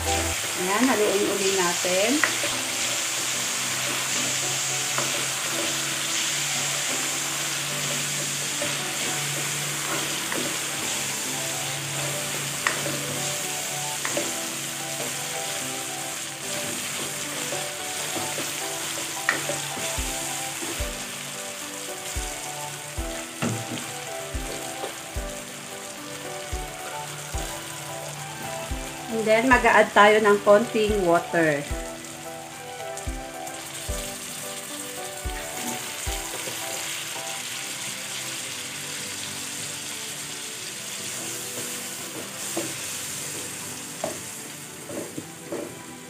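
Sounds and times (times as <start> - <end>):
chicken sizzling in a wok: 0.0 - 46.0.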